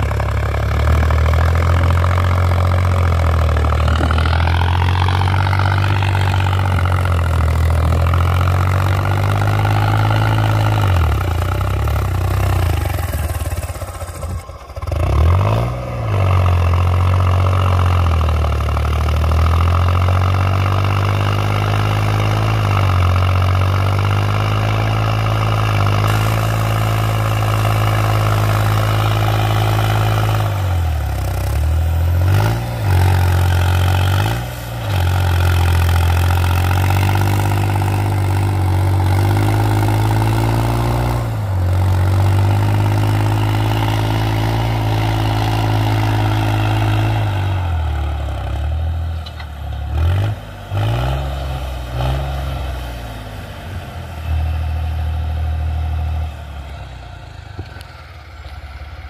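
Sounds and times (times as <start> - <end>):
tractor diesel engine running hard: 0.0 - 59.0.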